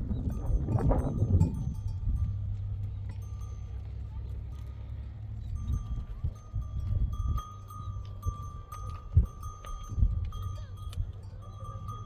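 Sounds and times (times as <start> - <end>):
wind rumble on microphone: 0.0 - 12.0
animal neck bells clinking: 0.1 - 12.0.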